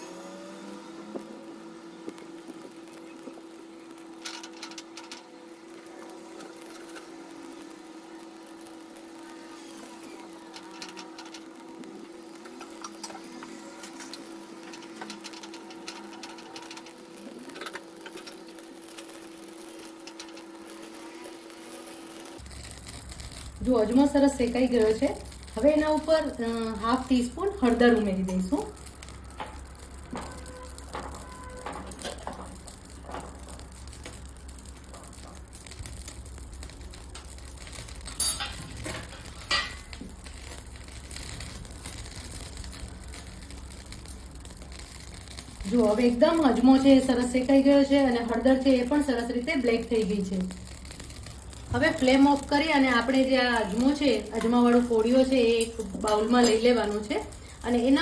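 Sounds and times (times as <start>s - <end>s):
seeds crackling and popping: 0.0s - 58.0s
steady hum: 0.0s - 58.0s.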